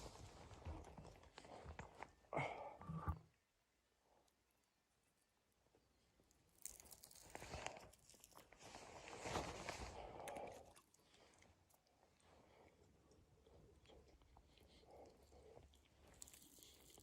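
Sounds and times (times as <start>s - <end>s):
faint crunching and rustling: 0.0s - 3.3s, 5.0s - 17.0s.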